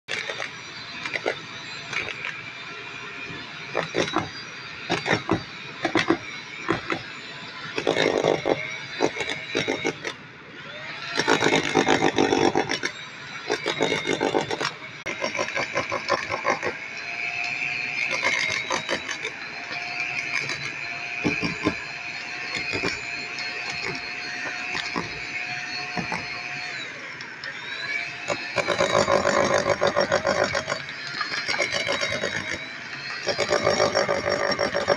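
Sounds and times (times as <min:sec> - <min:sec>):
hammer drill boring into concrete: 0:00.1 - 0:34.9.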